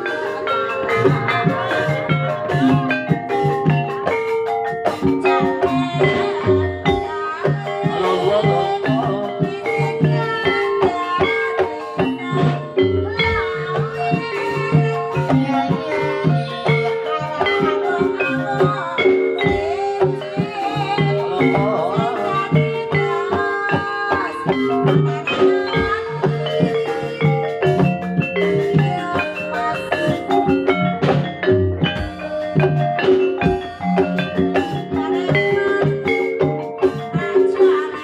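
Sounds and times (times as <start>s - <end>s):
tuned mallet percussion melody: 0.0s - 38.0s.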